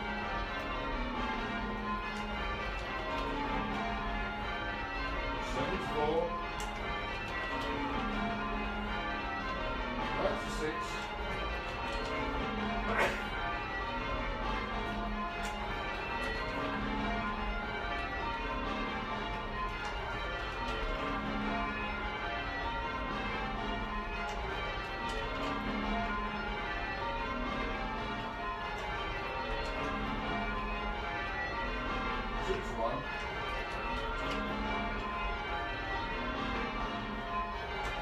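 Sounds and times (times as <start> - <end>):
church bells change ringing: 0.0 - 38.0.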